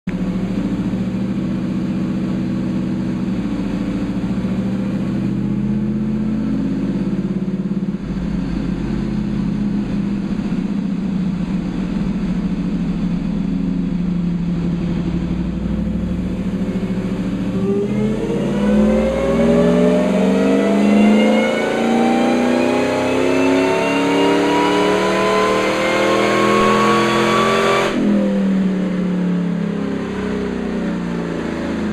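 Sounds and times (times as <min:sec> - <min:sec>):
supercharged engine on dyno: 0:00.0 - 0:31.9.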